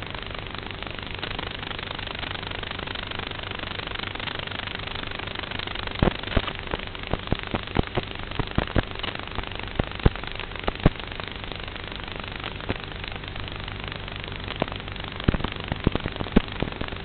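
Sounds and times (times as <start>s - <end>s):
crackling clicks and pops: 0.0s - 17.0s
steady hiss: 0.0s - 17.0s.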